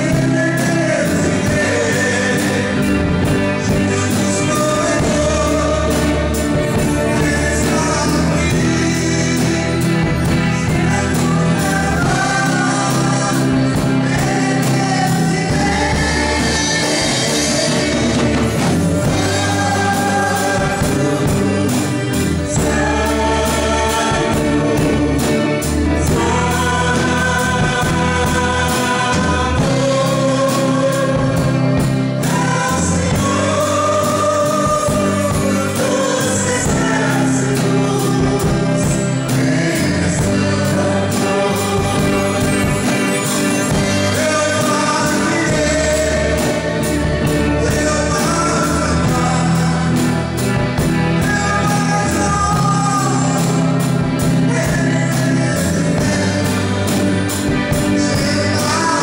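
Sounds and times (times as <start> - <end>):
drum kit with cymbals: 0.0 - 59.0
electric guitar: 0.0 - 59.0
keyboard: 0.0 - 59.0
voices singing held notes: 0.0 - 59.0.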